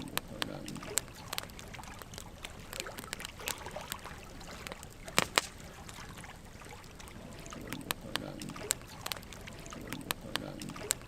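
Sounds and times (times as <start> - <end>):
fire popping: 0.0 - 11.0
soft steady hiss: 0.0 - 11.0
wood fire crackling: 0.0 - 11.0.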